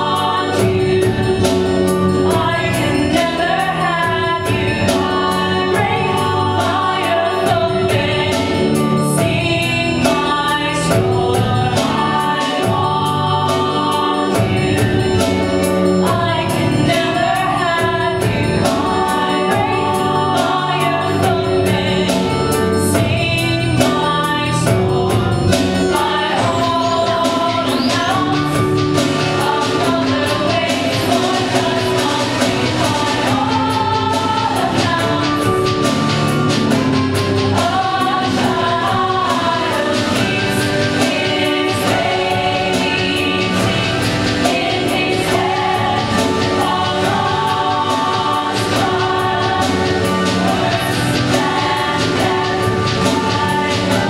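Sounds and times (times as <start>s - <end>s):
chorus singing with accompaniment: 0.0s - 54.0s.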